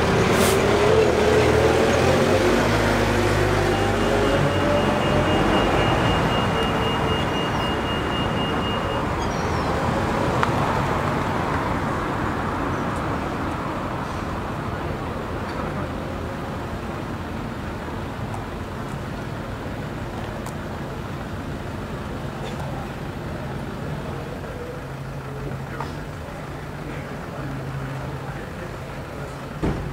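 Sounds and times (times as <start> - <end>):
town traffic noise: 0.0 - 29.9.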